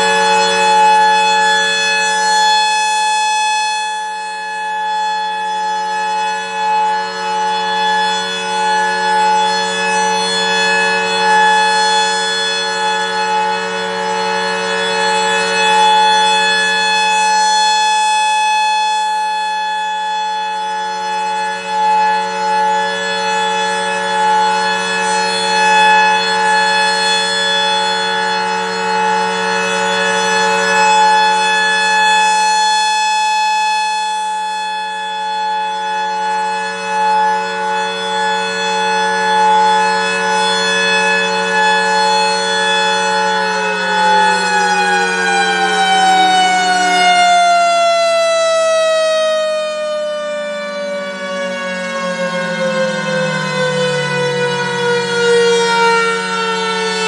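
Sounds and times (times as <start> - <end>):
rotating warning siren: 0.0 - 57.0.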